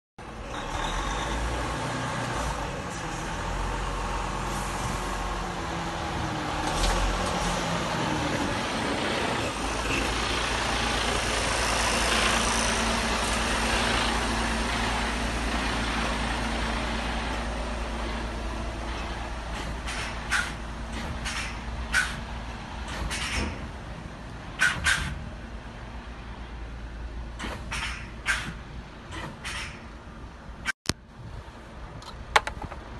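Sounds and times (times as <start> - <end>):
truck diesel engine hum: 0.2 - 32.9
tyre and road noise: 0.2 - 32.9.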